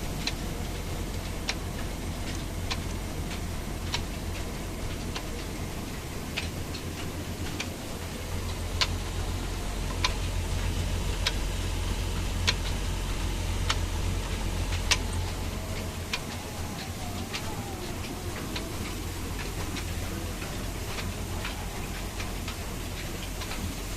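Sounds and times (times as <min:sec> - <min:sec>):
sharp mechanical clicks: 0:00.0 - 0:23.9
stationary engine thrumming: 0:00.0 - 0:23.9.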